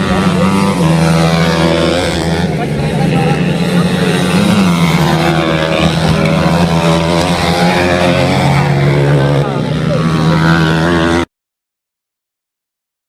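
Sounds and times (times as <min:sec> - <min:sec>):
motorcycle engines droning: 0:00.0 - 0:11.3.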